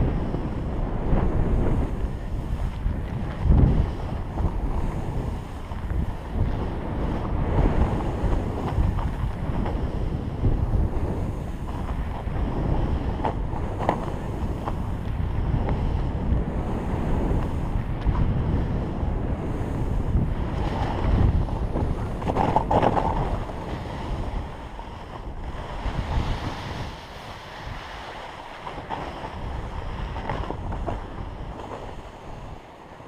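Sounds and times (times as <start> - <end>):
snowboard scraping over snow: 0.0 - 33.0
wind rushing over microphone: 0.0 - 33.0.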